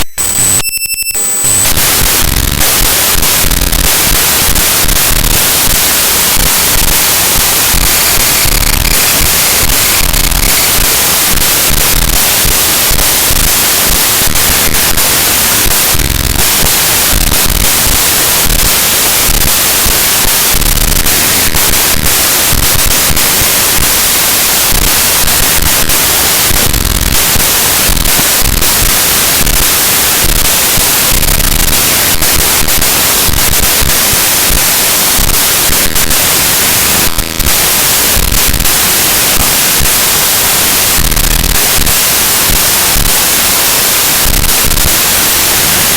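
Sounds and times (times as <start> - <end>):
harsh crackling static noise: 0.0 - 45.9.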